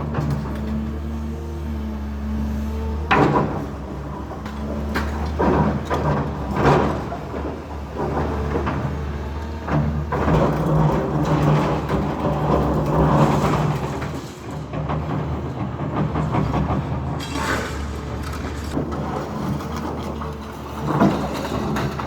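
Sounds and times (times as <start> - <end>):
knocks clanks and rattles: 0.0 - 1.2, 3.0 - 22.0
heavy engine humming: 0.0 - 22.0.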